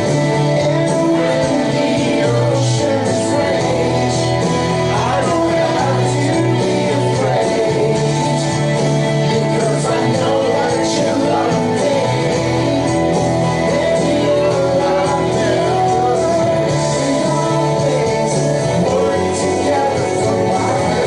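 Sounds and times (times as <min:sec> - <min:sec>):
person singing: 0:00.0 - 0:21.0
worship band playing: 0:00.0 - 0:21.0.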